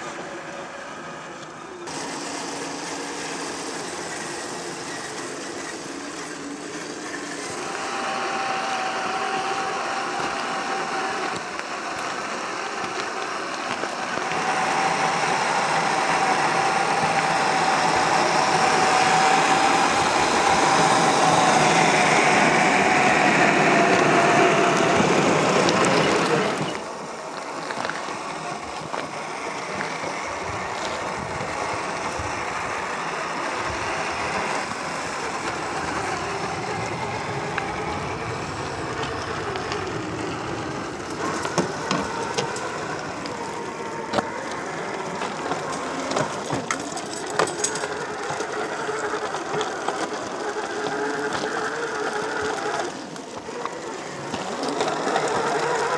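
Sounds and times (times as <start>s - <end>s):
rc car motor whining: 0.0s - 55.9s
tyres clicking over gravel: 0.0s - 55.9s.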